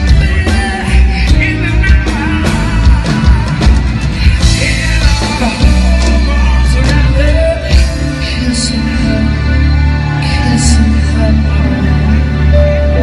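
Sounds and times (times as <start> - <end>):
live band through pa: 0.0 - 13.0.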